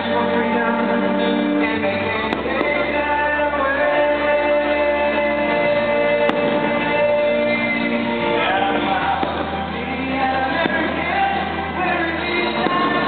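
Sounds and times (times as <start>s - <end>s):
patriotic song over loudspeakers: 0.0s - 13.0s.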